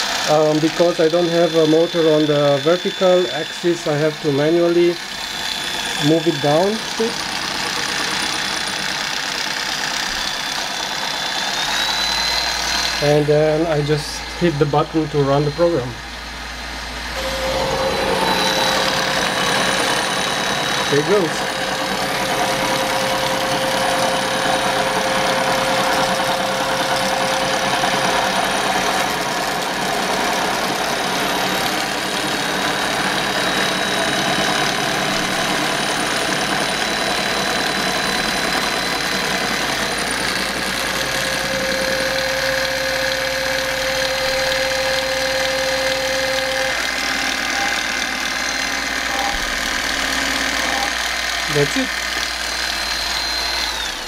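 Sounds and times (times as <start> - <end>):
milling machine cutting steel: 0.0 - 54.0.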